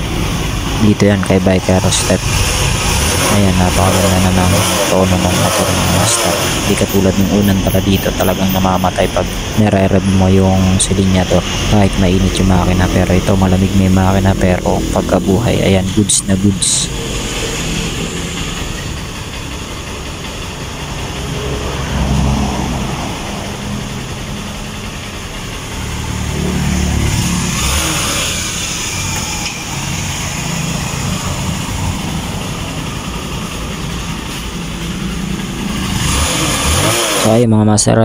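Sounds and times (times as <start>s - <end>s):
motorcycle engine idling and revving: 0.0s - 38.0s.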